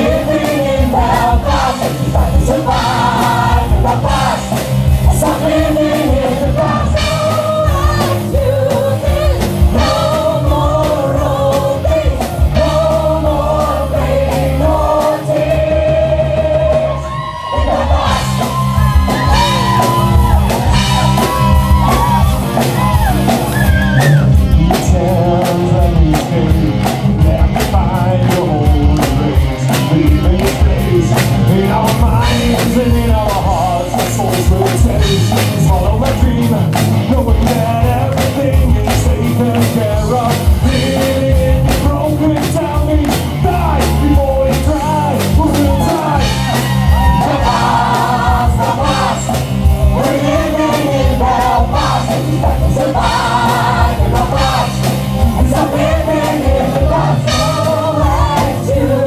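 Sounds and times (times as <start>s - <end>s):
man singing: 0.0s - 17.0s, 23.9s - 59.0s
bass guitar: 0.0s - 59.0s
drum beat: 0.0s - 59.0s
electric guitar: 0.0s - 59.0s.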